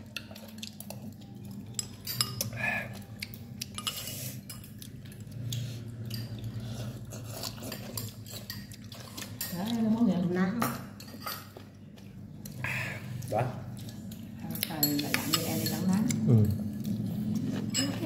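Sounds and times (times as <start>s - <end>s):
utensils clinking on ceramic dishes: 0.0s - 12.6s, 13.8s - 18.0s.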